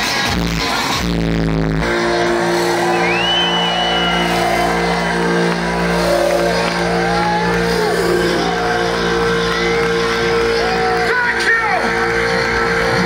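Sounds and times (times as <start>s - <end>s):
crowd cheering and whistling: 1.8s - 13.0s
sustained electronic chord: 1.8s - 13.0s.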